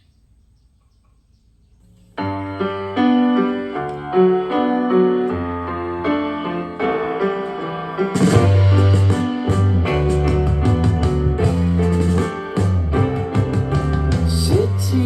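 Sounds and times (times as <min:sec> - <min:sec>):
piano song through speaker: 0:02.1 - 0:15.0.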